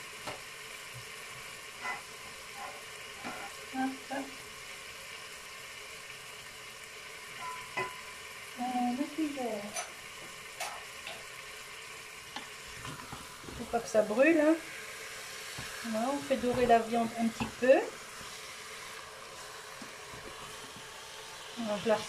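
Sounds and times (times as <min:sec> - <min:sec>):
chicken sizzling in a pot: 0:00.0 - 0:22.0.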